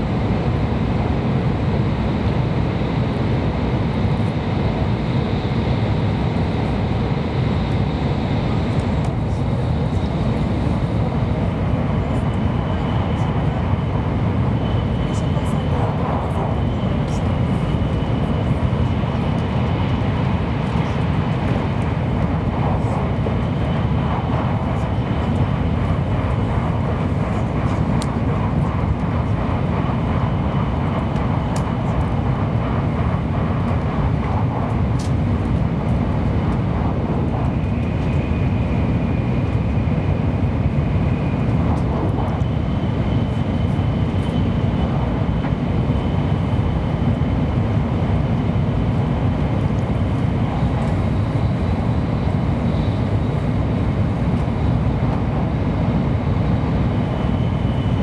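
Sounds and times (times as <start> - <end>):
train cabin rumble: 6.1 - 58.0.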